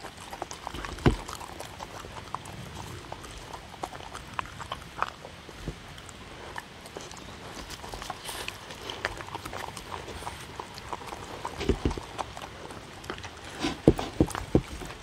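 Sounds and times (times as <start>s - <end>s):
dogs chewing and licking: 0.0s - 15.0s.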